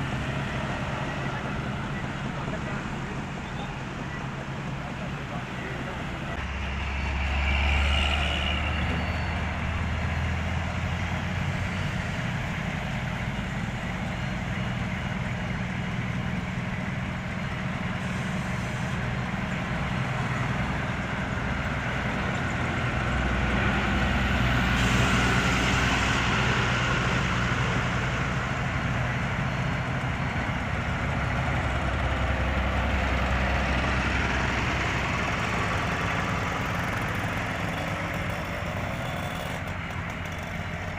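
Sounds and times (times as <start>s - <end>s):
heavy machinery diesel engines: 0.0s - 40.9s.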